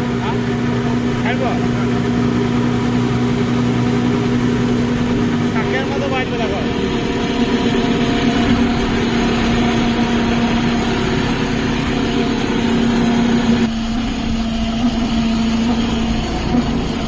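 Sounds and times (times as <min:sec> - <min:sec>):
horn-like droning tone: 0:00.0 - 0:17.0
tractor engine running: 0:00.0 - 0:17.0.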